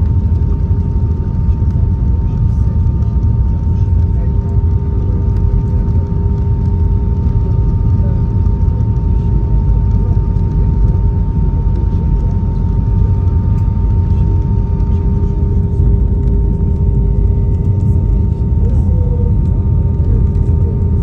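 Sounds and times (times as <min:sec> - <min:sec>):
airplane cabin rumble: 0:00.0 - 0:21.0
higher hum: 0:00.0 - 0:21.0
low hum: 0:00.0 - 0:21.0.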